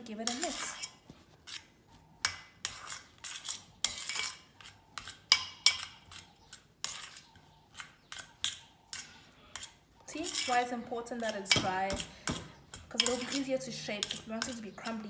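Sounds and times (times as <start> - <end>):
metal utensil scraping pot: 0.0 - 15.0.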